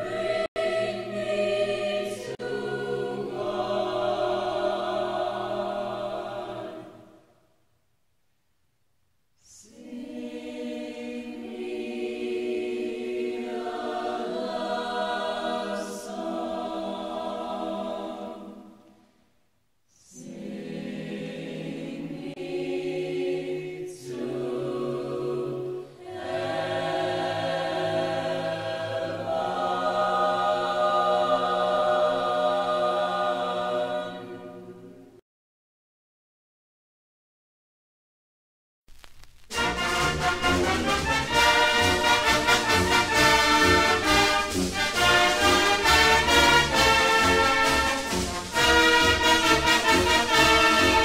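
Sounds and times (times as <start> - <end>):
choir singing slow chords: 0.0 - 7.6, 9.4 - 19.2, 19.9 - 35.2, 39.5 - 51.0.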